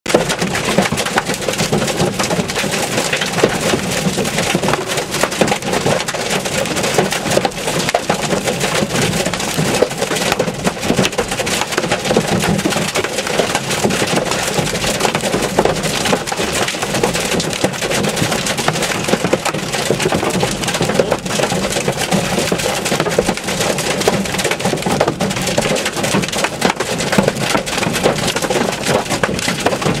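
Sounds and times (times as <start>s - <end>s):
hail clattering on hard surfaces: 0.1s - 30.0s.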